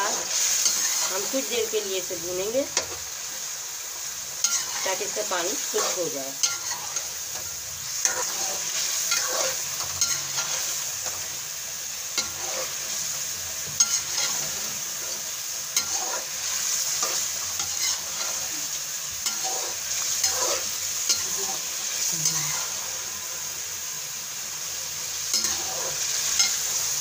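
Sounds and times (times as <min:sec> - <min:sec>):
metal spoon scraping a pan: 0:00.0 - 0:01.8, 0:04.3 - 0:23.5, 0:25.2 - 0:27.0
food sizzling in a pan: 0:00.0 - 0:27.0.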